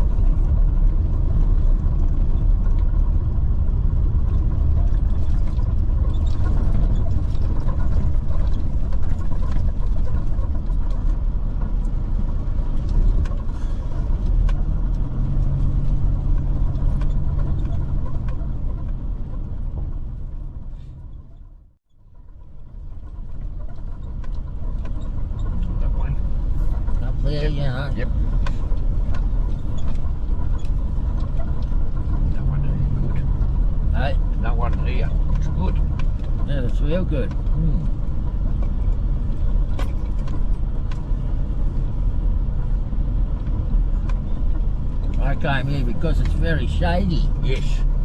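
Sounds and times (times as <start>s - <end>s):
car cabin road and engine rumble: 0.0s - 48.0s.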